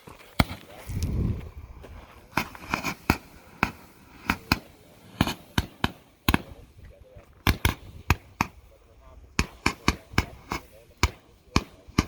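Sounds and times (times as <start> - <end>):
firework pops: 0.4 - 6.6, 7.4 - 8.6, 9.4 - 12.0.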